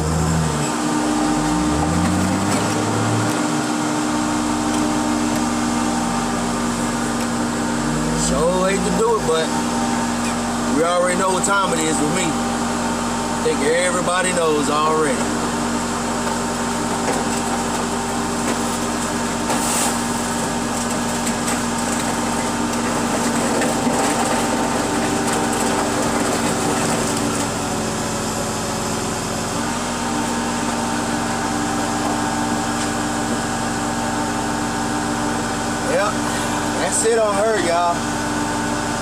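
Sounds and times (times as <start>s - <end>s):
car crusher engine and hydraulics: 0.0s - 39.0s.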